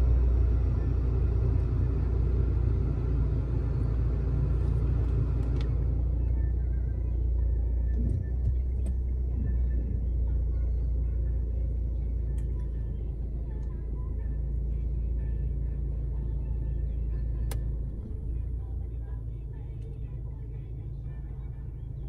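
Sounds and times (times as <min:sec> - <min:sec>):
car idling rumble: 0:00.0 - 0:22.0.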